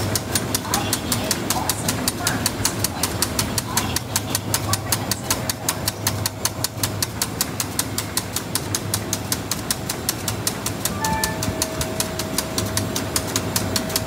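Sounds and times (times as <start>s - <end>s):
pump rapid even clicking: 0.0s - 14.0s
steady low hum: 0.0s - 14.0s.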